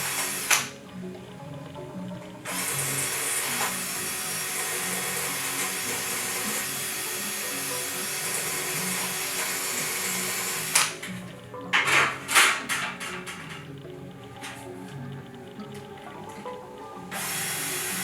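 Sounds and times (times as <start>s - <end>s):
background music: 0.0s - 18.0s
power drill running: 0.0s - 18.0s.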